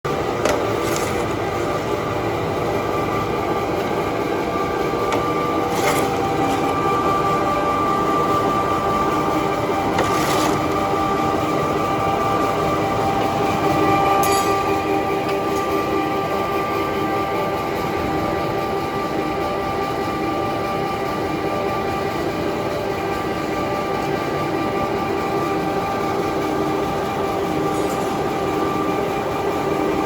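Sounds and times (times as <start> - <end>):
machine mechanical drone with whine: 0.0 - 30.0.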